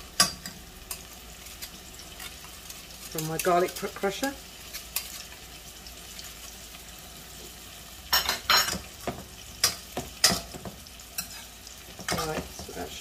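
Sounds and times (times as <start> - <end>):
onions sizzling in frying pan: 0.0 - 13.0.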